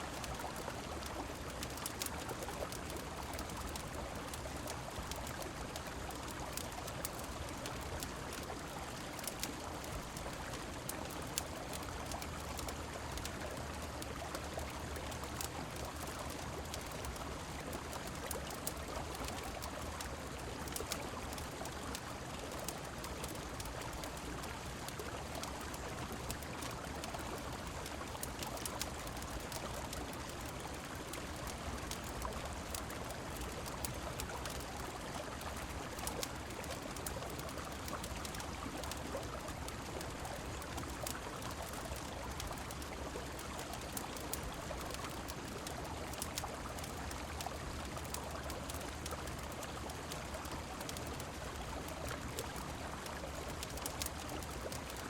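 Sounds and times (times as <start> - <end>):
rain: 0.0 - 55.0
small sharp ticks and crackles: 0.0 - 55.0.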